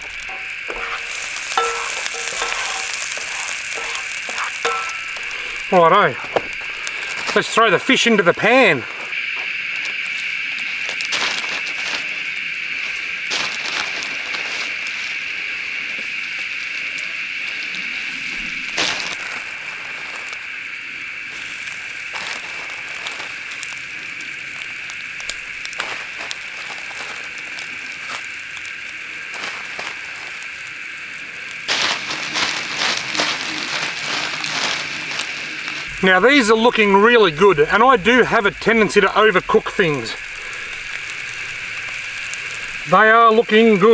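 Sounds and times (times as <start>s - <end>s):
fish fillets sizzling in butter: 0.0s - 43.9s.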